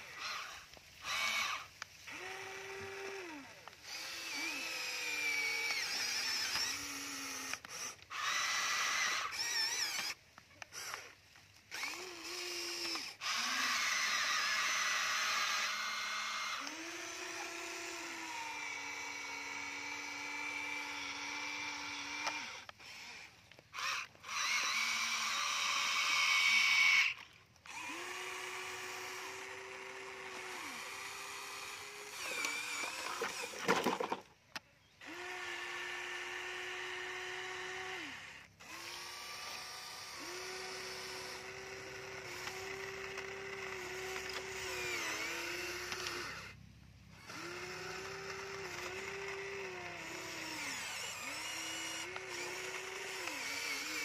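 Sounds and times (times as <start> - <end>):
toy excavator motors whining: 0.0 - 54.0.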